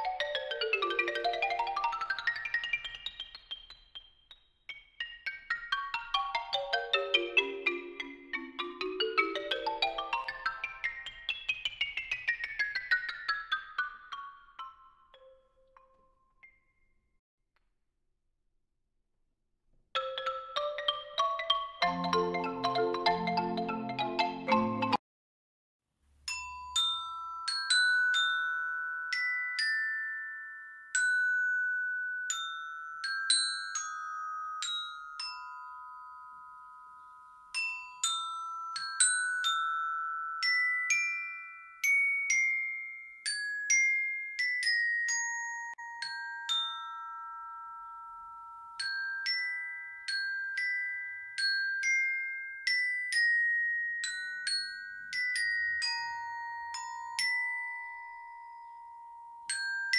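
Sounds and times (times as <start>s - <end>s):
glockenspiel melody: 0.0s - 17.1s, 20.0s - 25.0s, 26.3s - 59.9s.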